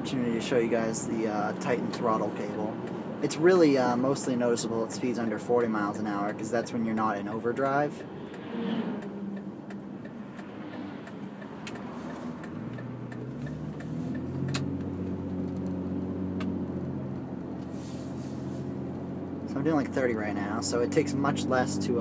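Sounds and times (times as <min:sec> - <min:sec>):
car engine pulling: 0:00.0 - 0:22.0
tyre and road noise: 0:00.0 - 0:22.0.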